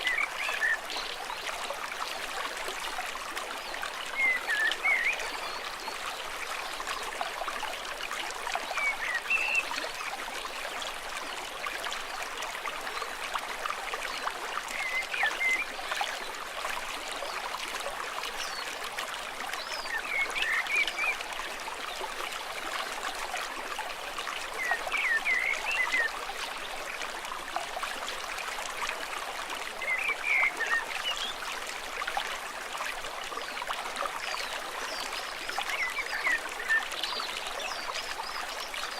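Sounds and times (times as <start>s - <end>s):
stream trickling and burbling: 0.0s - 38.9s.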